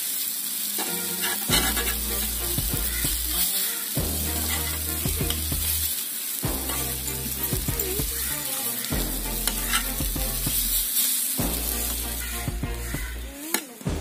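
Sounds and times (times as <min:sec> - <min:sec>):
fish sizzling in oil: 0:00.0 - 0:13.9
metal spatula scraping griddle: 0:00.8 - 0:13.6.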